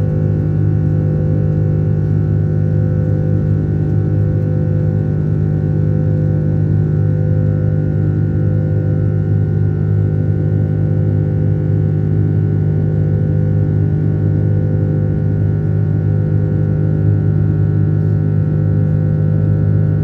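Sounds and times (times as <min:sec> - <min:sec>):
airliner engines droning in cabin: 0:00.0 - 0:20.0.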